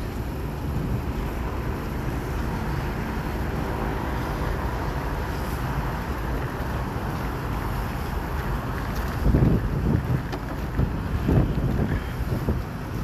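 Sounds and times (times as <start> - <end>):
city traffic rumble: 0.0 - 13.0
wind noise on microphone: 0.0 - 13.0.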